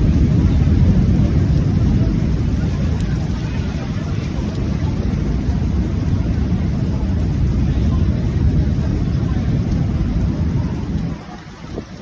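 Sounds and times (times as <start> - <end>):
storm wind buffeting microphone: 0.0 - 12.0.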